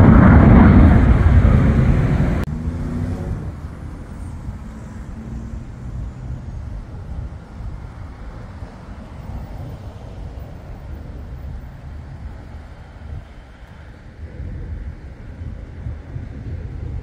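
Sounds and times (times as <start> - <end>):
distant jet aircraft rumble: 0.0 - 17.0.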